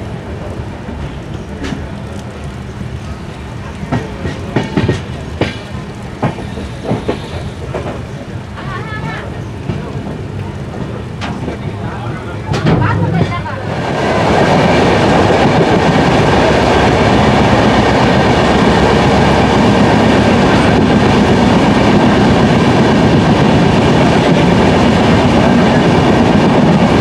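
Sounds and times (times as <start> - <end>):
train on next track: 0.0 - 27.0
wheels clattering on rails: 0.0 - 27.0.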